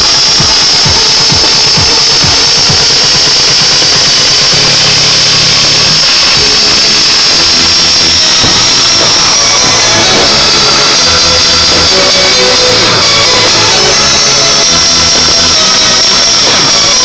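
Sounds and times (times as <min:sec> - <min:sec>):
fireworks crackling: 0:00.0 - 0:17.0
music from loudspeaker: 0:00.0 - 0:17.0.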